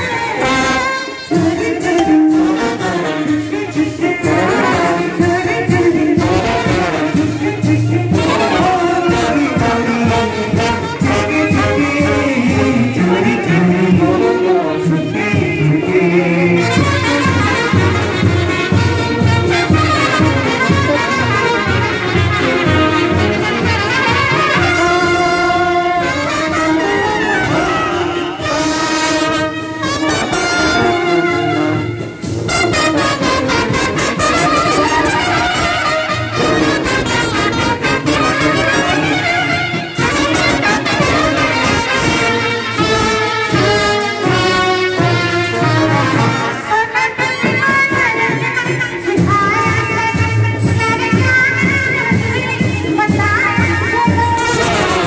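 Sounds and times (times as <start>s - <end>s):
street brass band playing: 0.0s - 55.0s.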